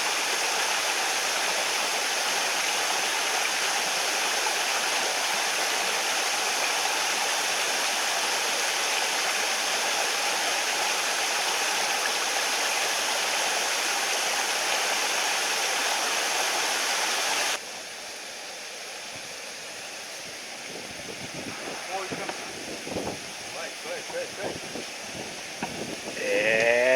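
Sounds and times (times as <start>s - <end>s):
stream water rushing: 0.0s - 26.9s.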